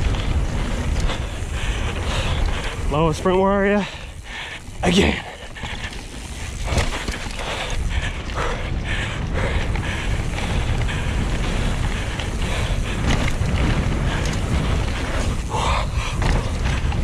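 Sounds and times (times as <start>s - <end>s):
bike clattering over bumps: 0.0s - 17.0s
tyres rumbling on trail: 0.0s - 17.0s
wind: 0.0s - 17.0s.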